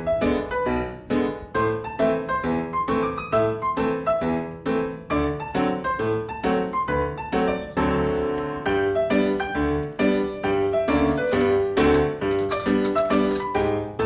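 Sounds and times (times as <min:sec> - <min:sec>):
piano tune: 0:00.0 - 0:14.0.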